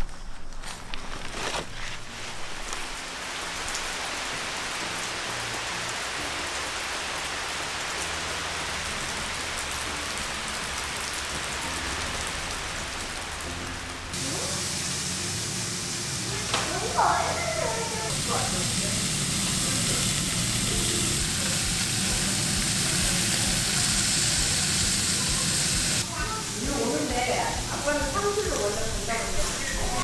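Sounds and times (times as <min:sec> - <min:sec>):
steady rain on ground: 0:02.1 - 0:30.0.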